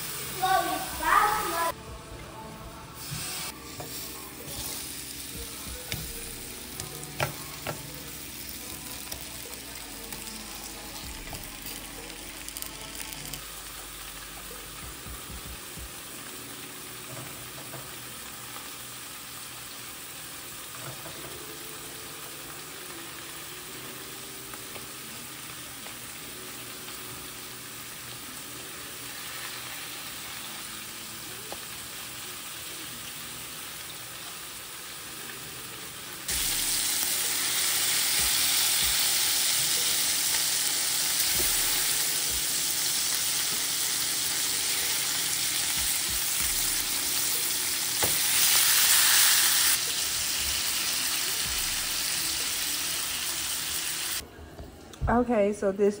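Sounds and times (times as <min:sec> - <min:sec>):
food sizzling in pans: 0:00.0 - 0:01.8, 0:03.0 - 0:54.2.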